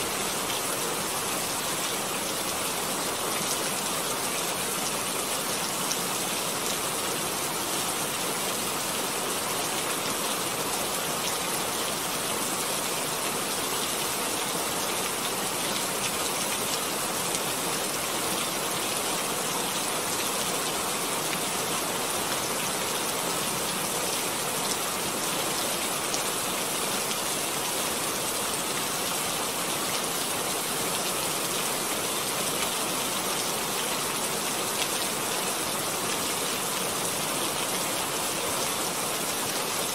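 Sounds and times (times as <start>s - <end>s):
rain-like hiss with patter: 0.0s - 39.9s.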